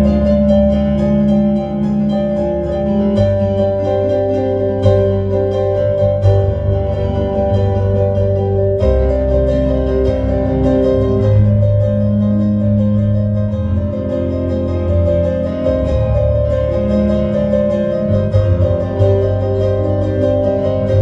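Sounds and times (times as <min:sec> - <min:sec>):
piano chords over bass notes: 0:00.0 - 0:21.0.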